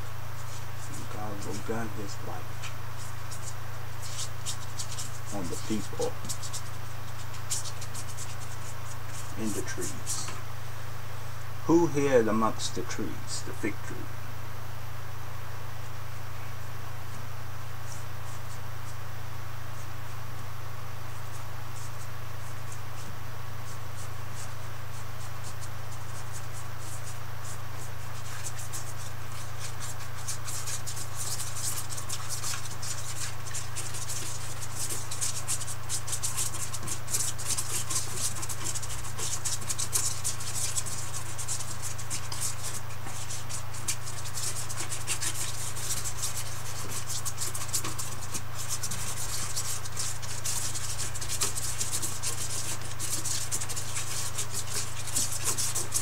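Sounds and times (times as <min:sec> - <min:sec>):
paintbrush scrubbing canvas: 0:00.0 - 0:10.3, 0:21.2 - 0:56.0
steady low hum: 0:00.0 - 0:56.0.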